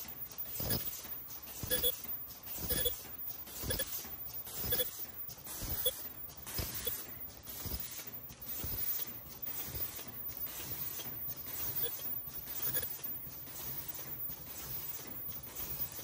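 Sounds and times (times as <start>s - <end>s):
machine mechanical clatter: 0.0s - 16.0s.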